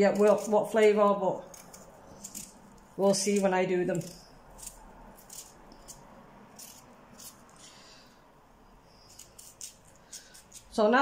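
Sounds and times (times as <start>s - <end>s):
knife scraping potato skin: 0.0s - 7.9s, 8.9s - 11.0s.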